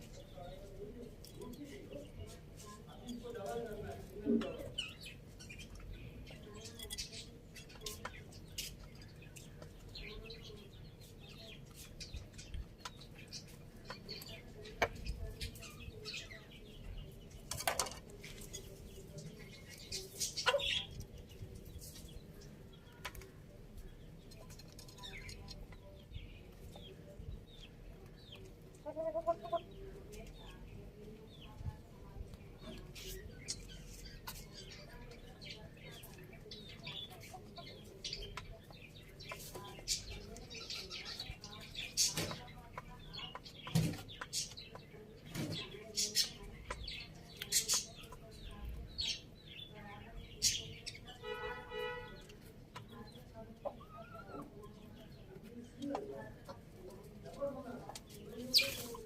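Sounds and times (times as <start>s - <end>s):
chickens pecking taps: 0.0s - 31.5s, 32.2s - 59.0s
chickens clucking: 0.0s - 59.0s.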